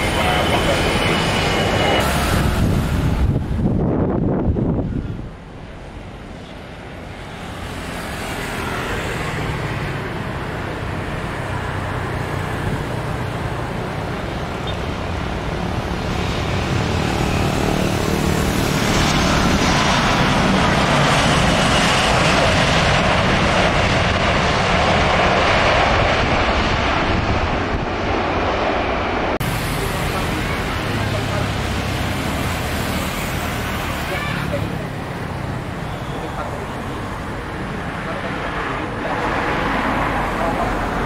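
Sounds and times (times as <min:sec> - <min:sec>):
jet airliner landing: 0:00.0 - 0:41.0.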